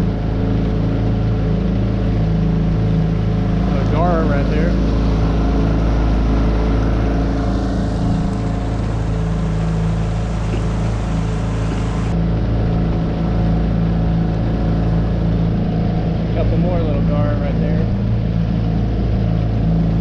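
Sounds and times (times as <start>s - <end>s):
outboard motor running: 0.0s - 20.0s
water rushing along hull: 0.0s - 20.0s.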